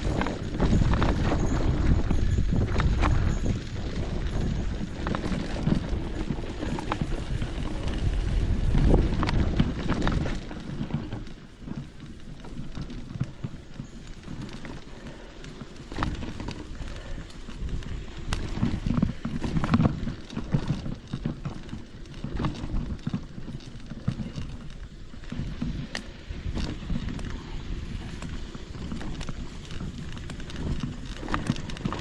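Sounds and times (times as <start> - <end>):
footsteps on forest trail: 0.0 - 32.0
wind rumbling on microphone: 0.0 - 32.0.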